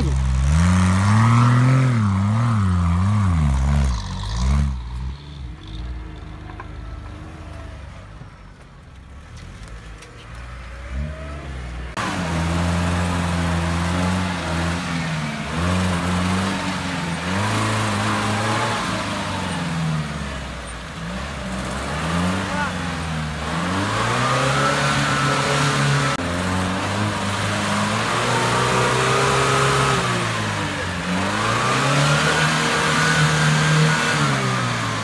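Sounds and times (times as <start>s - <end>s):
engine held at high revs: 0.0s - 5.9s, 10.8s - 35.0s
off-road vehicle engine revving: 0.0s - 7.8s, 10.4s - 35.0s.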